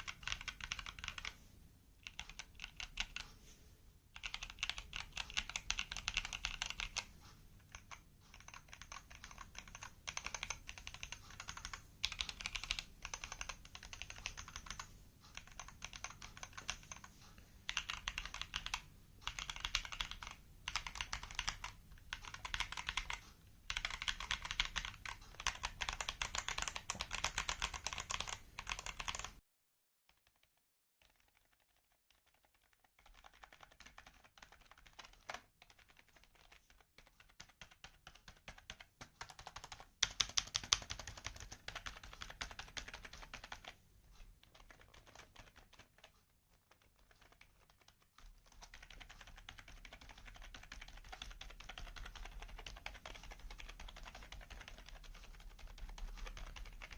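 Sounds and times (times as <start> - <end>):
typing on mechanical keyboard: 0.0 - 1.4, 2.0 - 3.4, 4.2 - 29.4, 30.2 - 56.9.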